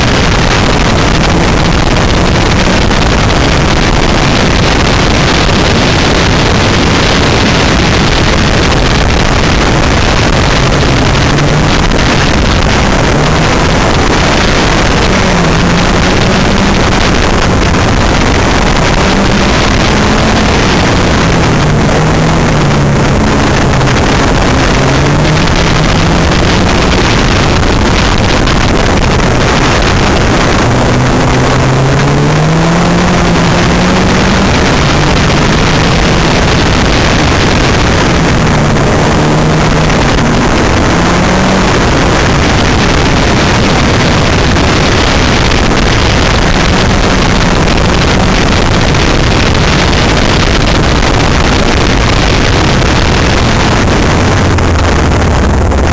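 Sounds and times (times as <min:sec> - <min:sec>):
loud wind noise: 0:00.0 - 0:55.9
race car engine revving: 0:00.0 - 0:55.9.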